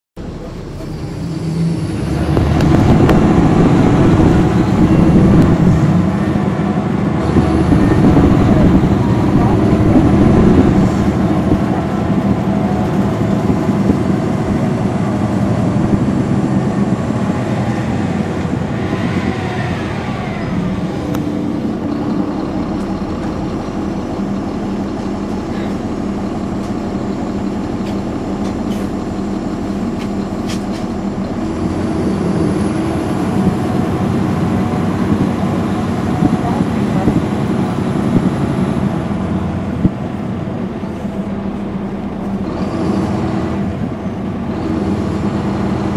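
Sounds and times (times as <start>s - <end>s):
bus diesel engine running: 0.2s - 45.9s.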